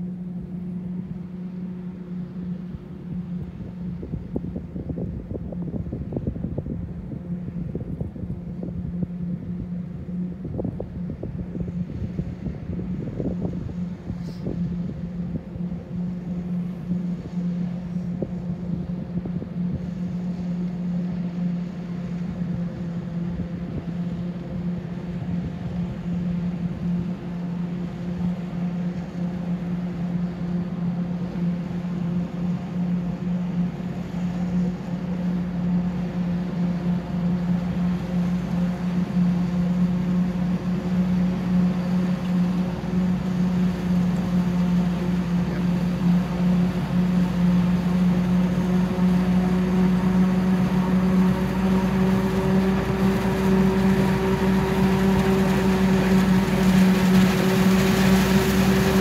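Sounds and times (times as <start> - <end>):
forage harvester droning: 0.0 - 59.0.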